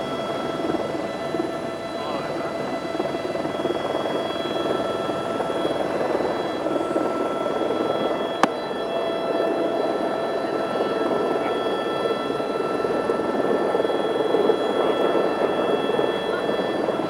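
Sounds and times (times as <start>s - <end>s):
helicopter drone with whine: 0.0s - 17.0s.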